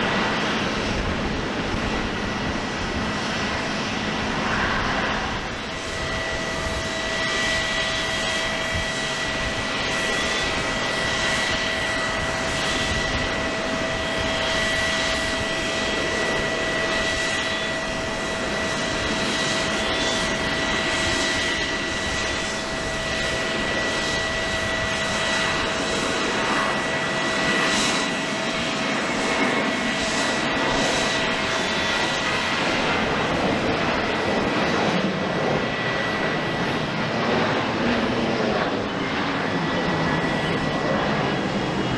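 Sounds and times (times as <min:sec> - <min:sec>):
jet engine rushing and whining: 0:00.0 - 0:41.9
lower jet engine whine: 0:00.0 - 0:41.9.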